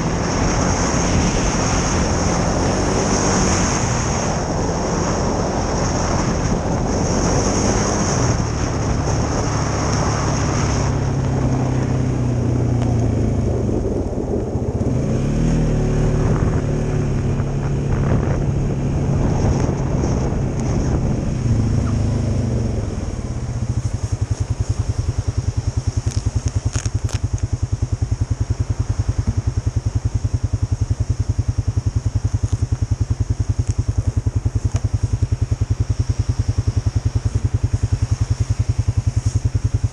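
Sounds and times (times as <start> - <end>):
quad bike engine revving and idling: 0.0 - 39.9.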